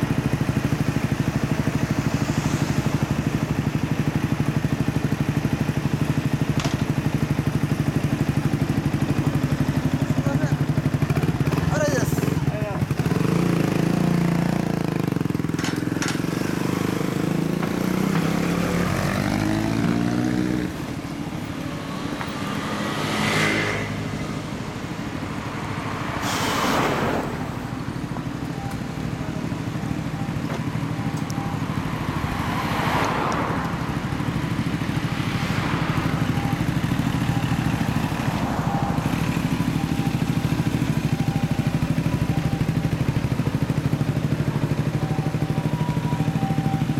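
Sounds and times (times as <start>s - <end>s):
motorcycle engine idling and revving: 0.0s - 46.9s
vehicles rushing past: 0.0s - 46.9s.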